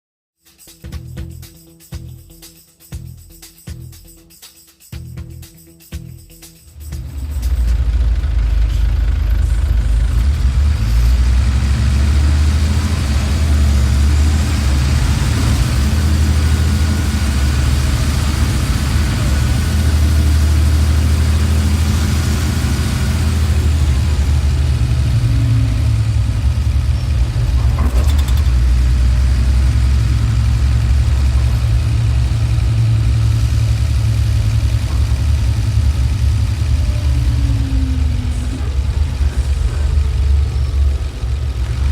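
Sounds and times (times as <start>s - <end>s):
diesel bus engine rumbling: 6.7s - 41.9s.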